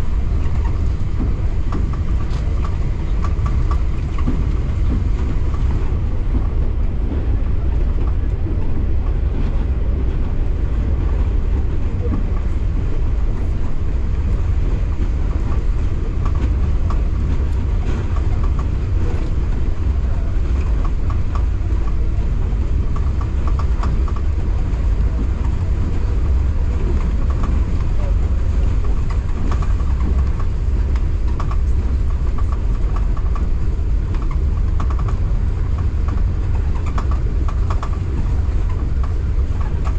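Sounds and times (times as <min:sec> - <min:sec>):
passenger train rumbling: 0:00.0 - 0:39.9.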